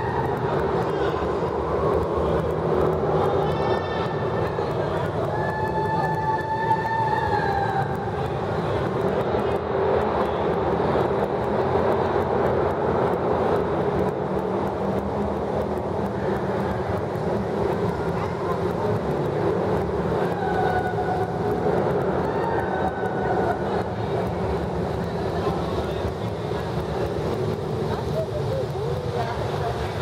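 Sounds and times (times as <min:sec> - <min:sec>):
rushing noise in tunnel: 0:00.0 - 0:30.0.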